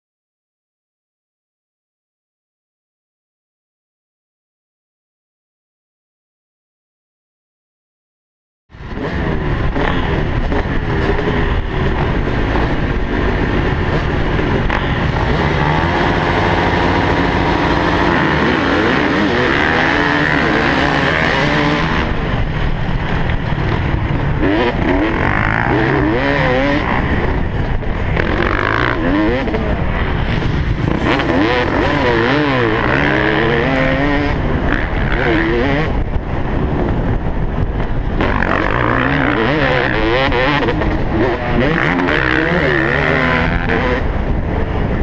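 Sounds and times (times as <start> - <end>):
motocross bike engines revving: 8.8 - 45.0.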